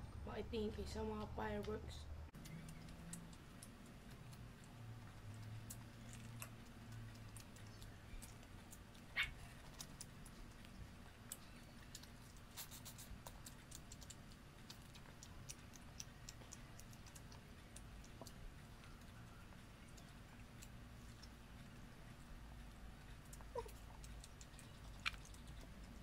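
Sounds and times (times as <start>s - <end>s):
chewing: 2.4s - 26.0s.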